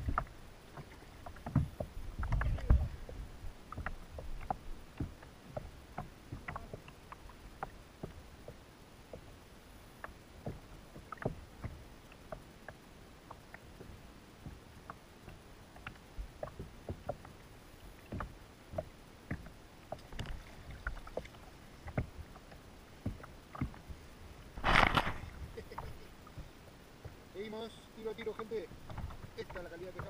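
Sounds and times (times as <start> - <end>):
small waves slapping kayak hull: 0.0 - 30.0.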